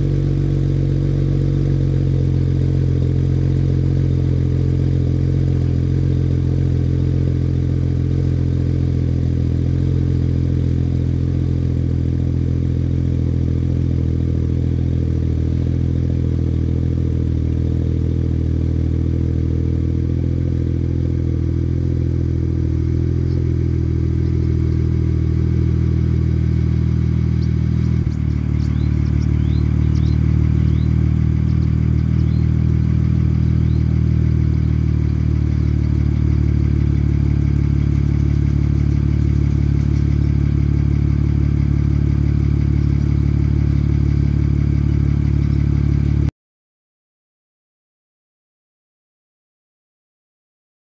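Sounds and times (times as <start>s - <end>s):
car engine idling: 0.0s - 46.3s.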